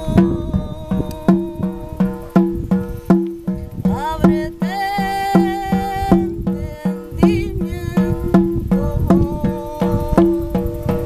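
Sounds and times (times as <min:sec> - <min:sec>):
frame drum beat: 0:00.0 - 0:11.0
woman singing wordless notes: 0:00.0 - 0:11.0.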